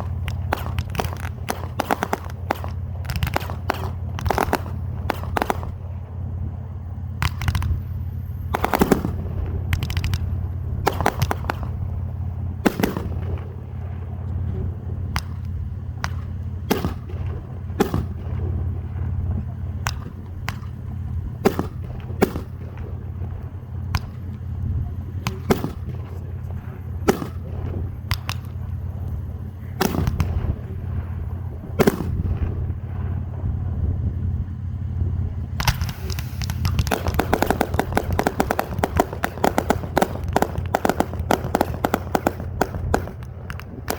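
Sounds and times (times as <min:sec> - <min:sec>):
fireworks bangs: 0:00.0 - 0:43.9
steady low hum: 0:00.0 - 0:43.9.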